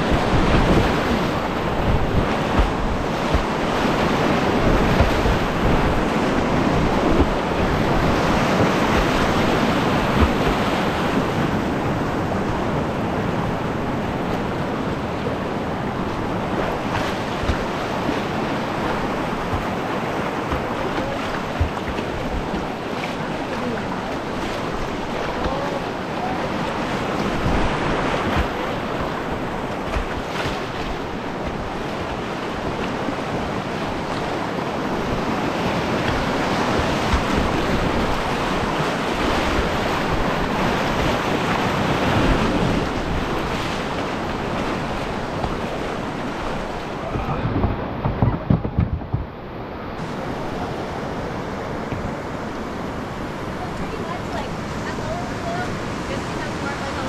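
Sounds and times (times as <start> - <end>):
rushing whitewater: 0.0 - 57.0
wind buffeting microphone: 0.0 - 57.0.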